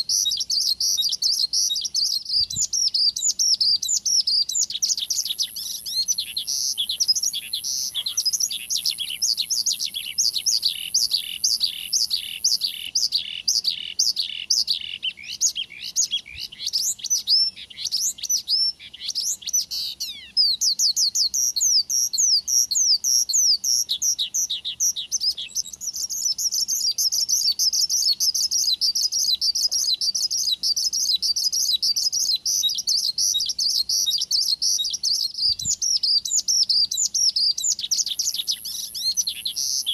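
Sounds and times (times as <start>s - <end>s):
lark singing: 0.0s - 39.9s.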